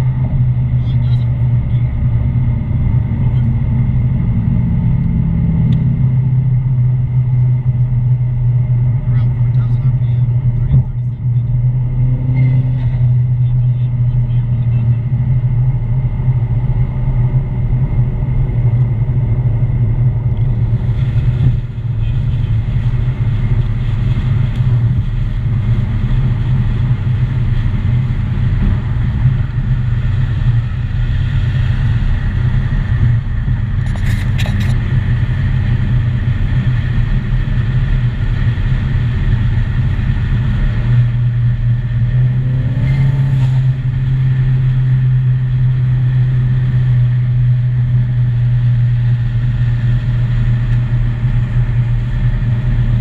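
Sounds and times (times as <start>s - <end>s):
car engine droning: 0.0s - 53.0s.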